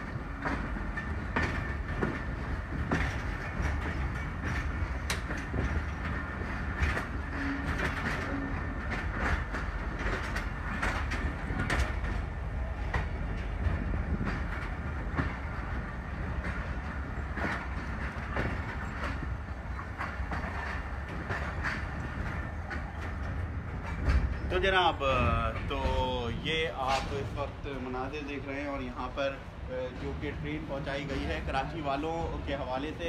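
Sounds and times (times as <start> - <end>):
train low rumble: 0.0 - 33.0
wheels clattering over rail joints: 0.0 - 33.0.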